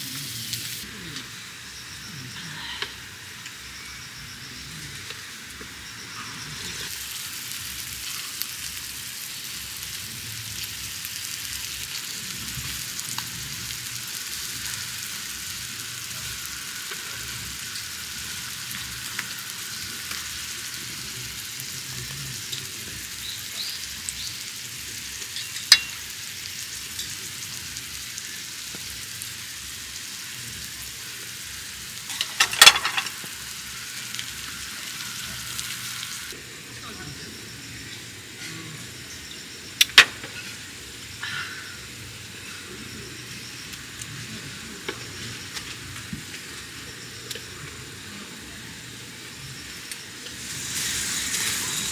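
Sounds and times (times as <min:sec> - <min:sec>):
food sizzling on a griddle: 0:00.0 - 0:51.9.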